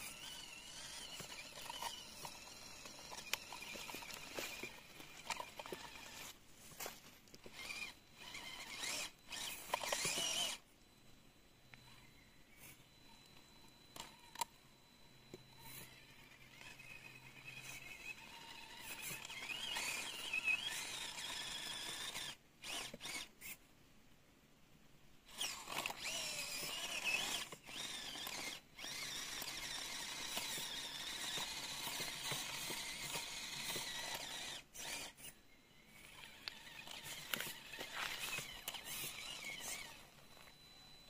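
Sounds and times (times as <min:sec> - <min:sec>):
small electric motor whining: 0:00.0 - 0:10.7, 0:11.6 - 0:23.6, 0:25.3 - 0:41.0.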